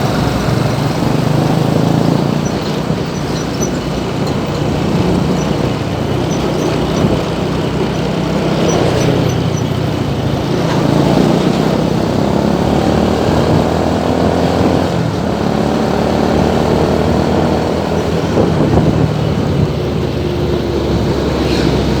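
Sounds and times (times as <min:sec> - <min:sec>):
traffic engines droning: 0:00.0 - 0:22.0.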